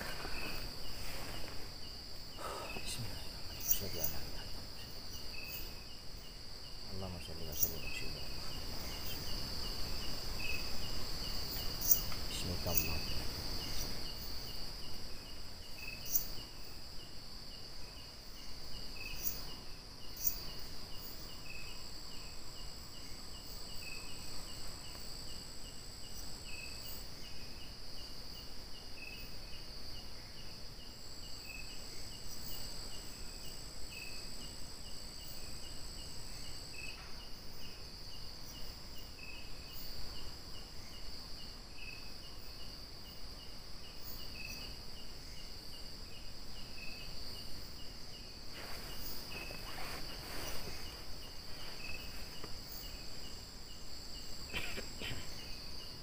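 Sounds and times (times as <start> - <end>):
crickets trilling: 0.0 - 56.0
insect chirping: 0.0 - 56.0.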